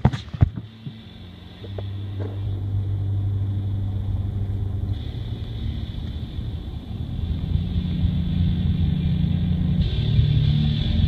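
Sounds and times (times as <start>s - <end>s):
low engine hum with rumble: 0.0s - 11.0s
faint high whine: 0.1s - 11.0s.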